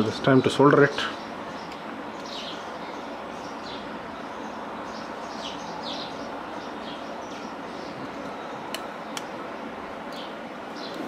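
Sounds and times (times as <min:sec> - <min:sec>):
small birds chirping: 0:00.0 - 0:09.4, 0:10.0 - 0:11.0
steady background hiss: 0:00.0 - 0:11.0.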